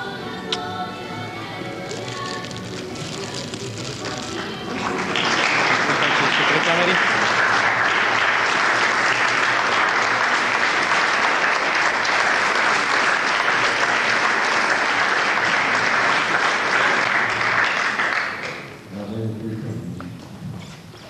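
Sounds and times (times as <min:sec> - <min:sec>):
audience applauding: 0:01.9 - 0:18.8.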